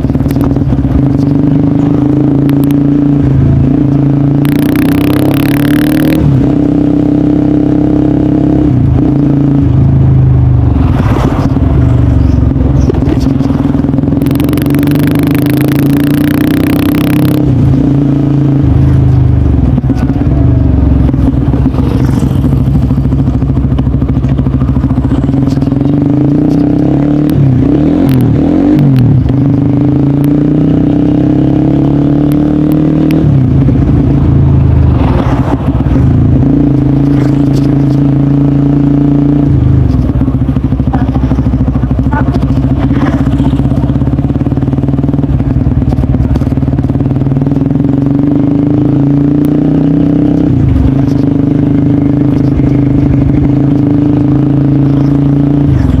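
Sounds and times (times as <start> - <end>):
loud motorcycle engine running: 0.0 - 56.0.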